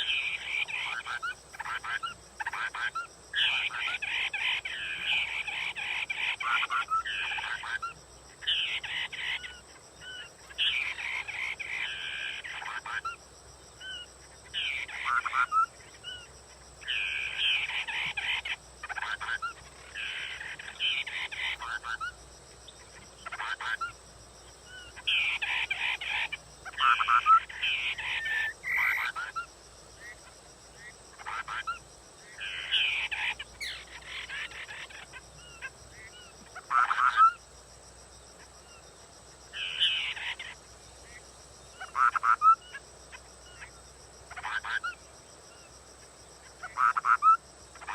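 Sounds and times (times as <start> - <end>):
bird singing warbled phrases: 0.0 - 13.2, 13.8 - 24.0, 24.6 - 37.4, 39.5 - 43.7.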